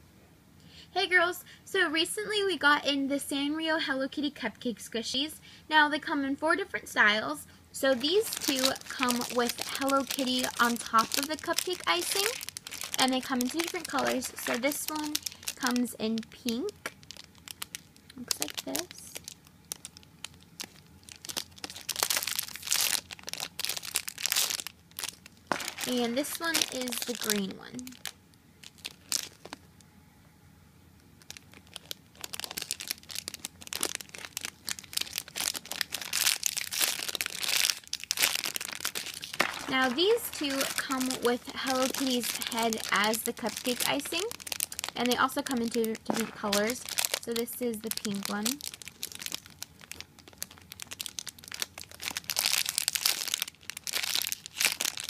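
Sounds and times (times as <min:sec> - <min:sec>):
plastic bag crinkling: 0:07.8 - 0:29.8, 0:31.2 - 0:55.0.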